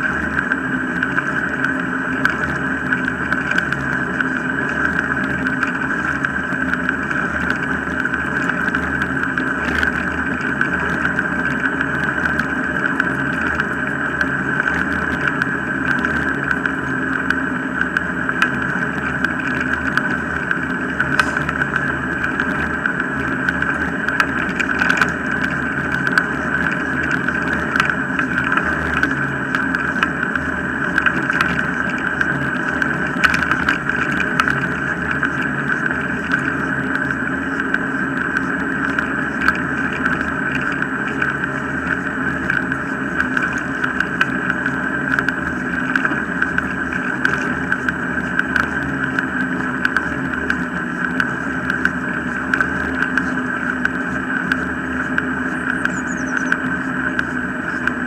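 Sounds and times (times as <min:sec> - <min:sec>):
rig rattling and clicking: 0:00.0 - 0:58.0
wheeled rig rolling on tarmac: 0:00.0 - 0:58.0.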